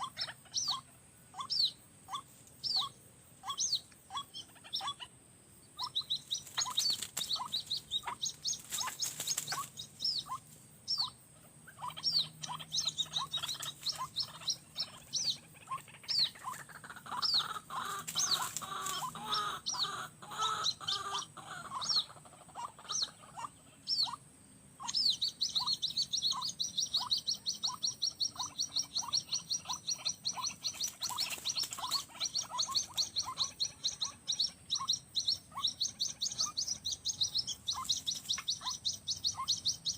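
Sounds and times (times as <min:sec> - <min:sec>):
waterhens calling: 0:00.0 - 0:05.2, 0:05.8 - 0:24.2, 0:24.8 - 0:39.9.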